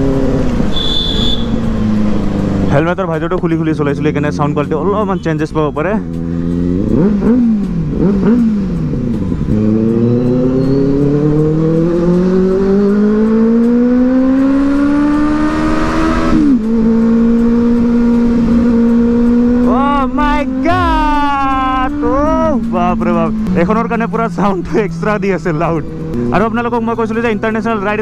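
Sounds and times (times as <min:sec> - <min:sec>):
motorcycle engine revving: 0:00.0 - 0:04.8, 0:05.9 - 0:28.0.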